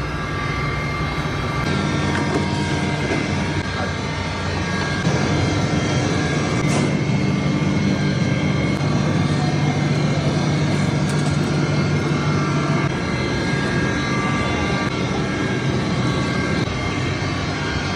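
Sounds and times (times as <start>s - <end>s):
factory machinery drone: 0.0s - 17.9s.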